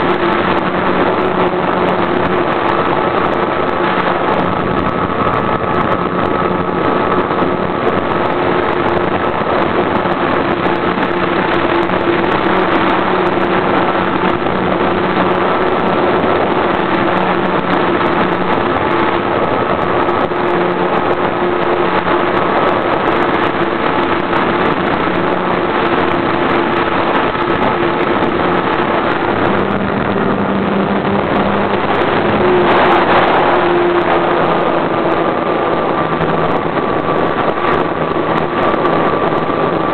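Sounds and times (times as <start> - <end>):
dense rushing noise: 0.0 - 39.9
model airplane engine running: 0.0 - 39.9.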